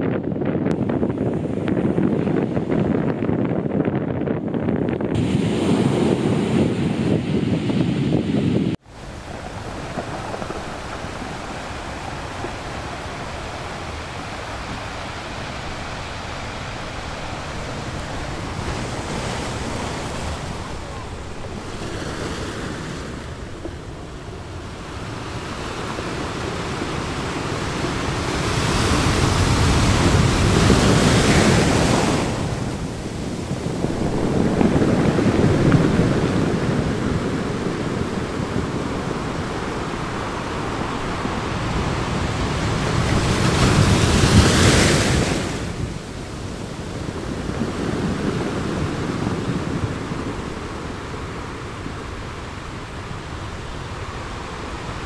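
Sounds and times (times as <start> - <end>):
wind on microphone: 0.0 - 55.0
sea surf breaking: 5.1 - 55.0.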